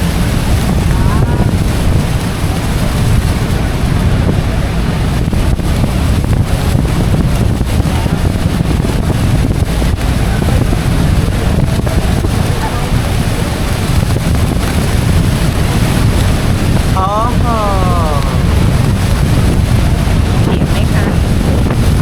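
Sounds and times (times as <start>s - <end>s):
boat engine running: 0.0s - 22.0s
falling water rushing: 0.0s - 22.0s
wind buffeting microphone: 0.0s - 22.0s.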